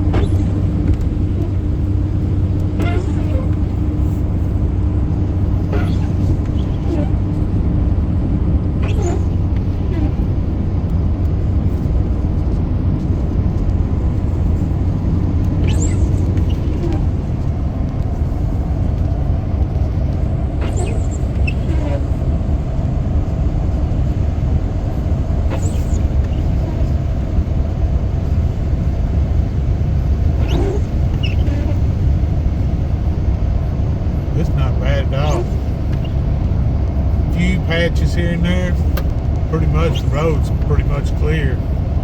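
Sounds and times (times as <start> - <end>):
car driving on road: 0.0 - 42.0.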